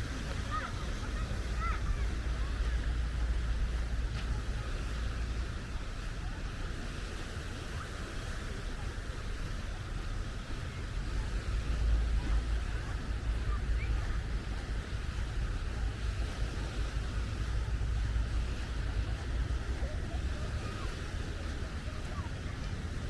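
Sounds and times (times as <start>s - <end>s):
surf rushing: 0.0s - 23.0s
wind rumbling on microphone: 0.0s - 23.0s.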